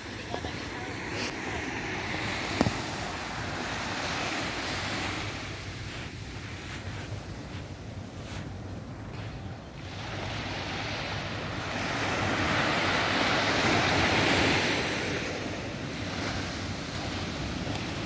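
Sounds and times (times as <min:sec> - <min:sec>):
surf washing up sandy beach: 0:00.0 - 0:18.0
wind rumble on microphone: 0:00.0 - 0:18.0.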